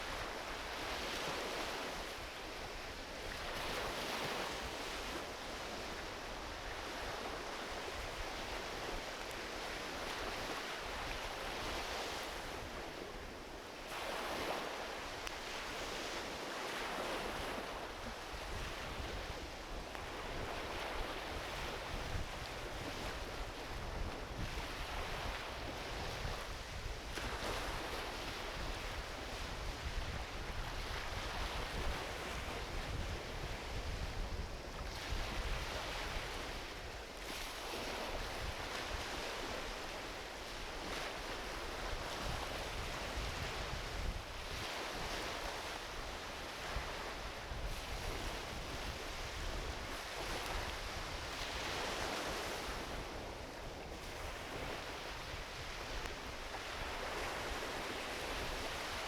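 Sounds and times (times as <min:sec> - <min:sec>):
waves washing onto beach: 0:00.0 - 0:59.0
wind rumble on microphone: 0:00.0 - 0:59.0.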